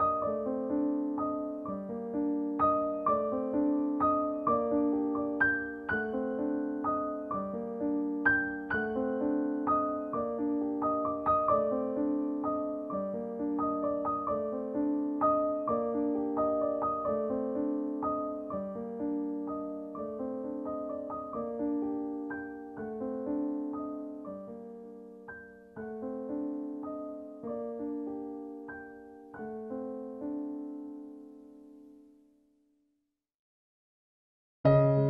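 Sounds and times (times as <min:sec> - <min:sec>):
soft piano music: 0:00.0 - 0:32.6, 0:34.6 - 0:35.0.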